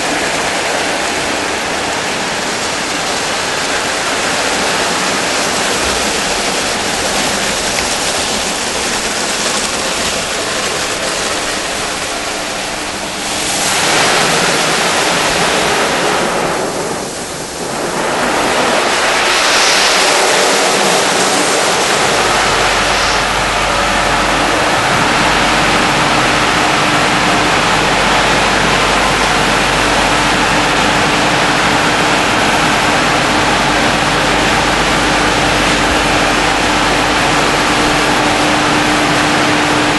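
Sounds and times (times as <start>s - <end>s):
low machine hum: 0.0s - 39.9s
rotating brushes washing car: 0.0s - 39.9s
water spraying: 0.0s - 39.9s.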